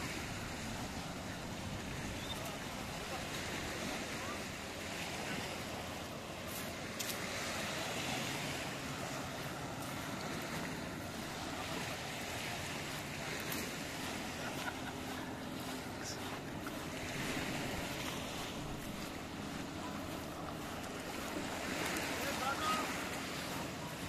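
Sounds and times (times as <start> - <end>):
faint boat motor hum: 0.0 - 24.0
waves washing on sandy shore: 0.0 - 24.0.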